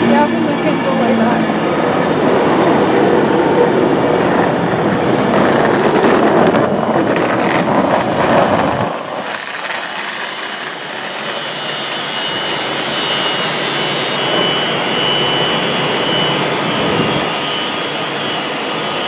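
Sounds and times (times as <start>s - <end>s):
deep rumble: 0.0s - 18.3s
electric train rushing noise: 0.0s - 19.0s.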